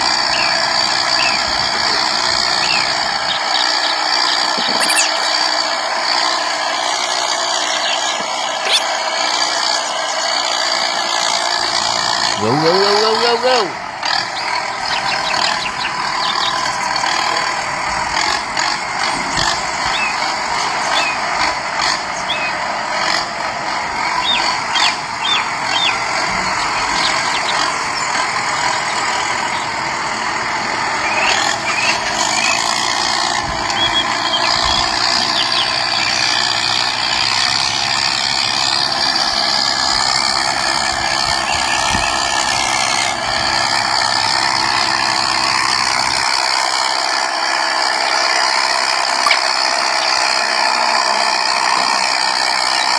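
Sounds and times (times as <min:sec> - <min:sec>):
electric motor whirring through gears: 0:00.0 - 0:52.9.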